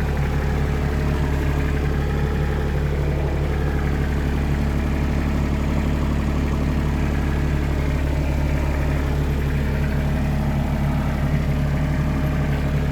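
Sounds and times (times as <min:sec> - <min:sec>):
diesel engine humming: 0:00.0 - 0:12.9.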